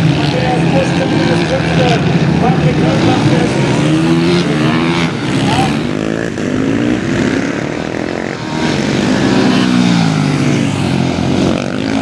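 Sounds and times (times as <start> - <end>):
racing motorcycle engines: 0.0 - 12.0.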